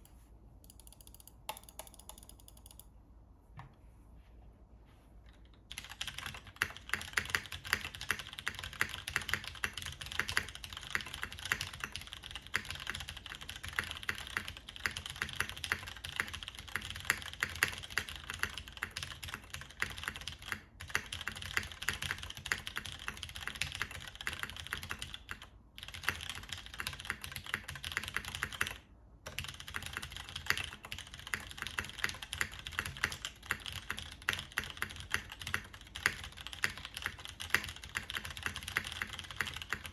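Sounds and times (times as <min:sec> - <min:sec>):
fast mechanical keyboard typing: 0:00.7 - 0:02.9, 0:05.7 - 0:39.9.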